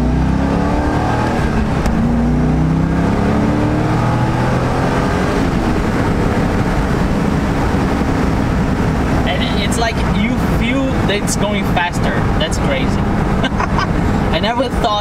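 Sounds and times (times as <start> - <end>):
car engine accelerating: 0.0 - 14.9
road noise: 0.0 - 15.0.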